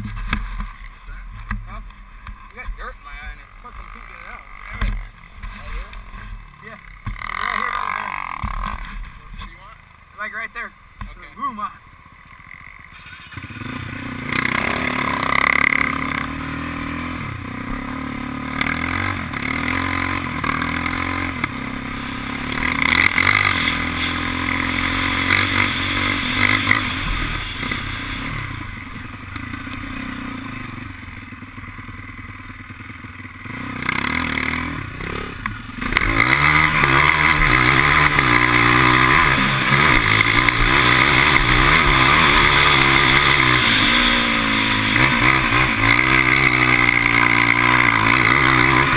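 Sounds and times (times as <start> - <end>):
quad engine revving: 2.6 - 9.0, 13.0 - 48.9.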